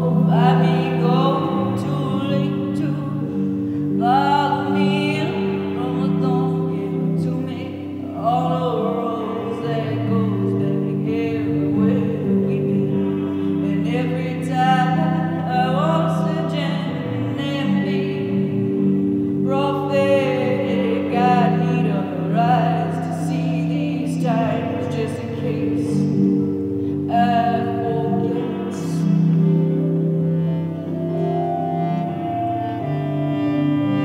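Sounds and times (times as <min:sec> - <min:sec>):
harmonium chords: 0:00.0 - 0:34.0
woman singing with vibrato: 0:00.0 - 0:34.0.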